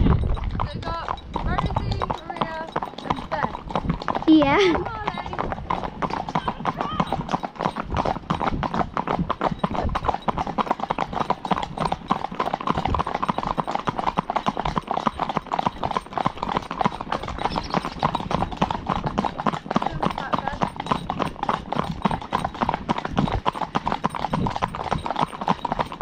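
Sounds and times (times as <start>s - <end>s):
horse hooves clip-clopping on tarmac: 0.0s - 26.0s.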